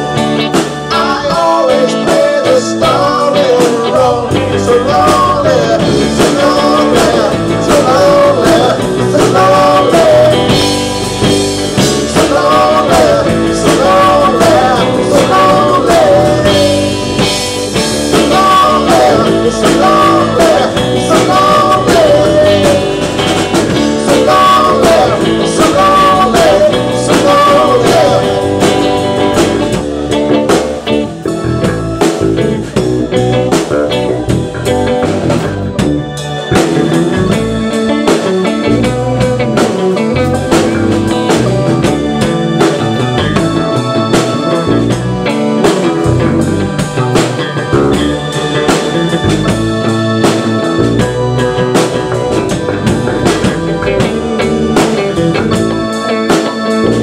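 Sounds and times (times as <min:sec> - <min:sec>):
drum kit: 0:00.0 - 0:57.0
electric guitar: 0:00.0 - 0:57.0
man singing: 0:00.8 - 0:29.8, 0:36.8 - 0:50.4, 0:53.3 - 0:57.0.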